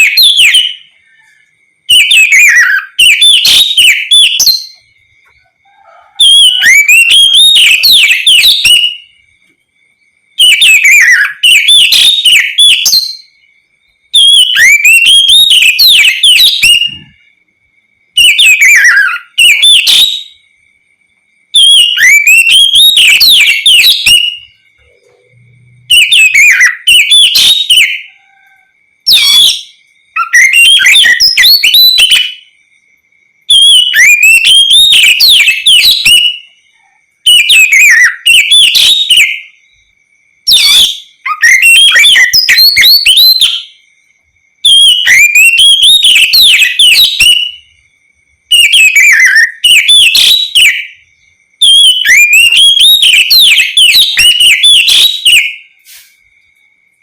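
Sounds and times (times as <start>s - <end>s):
bird singing whistled phrases: 0.0s - 4.9s, 5.7s - 9.2s, 10.3s - 13.5s, 14.1s - 17.2s, 18.2s - 20.5s, 21.5s - 32.6s, 33.5s - 39.6s, 40.5s - 43.8s, 44.6s - 47.8s, 48.5s - 51.0s, 51.6s - 56.2s.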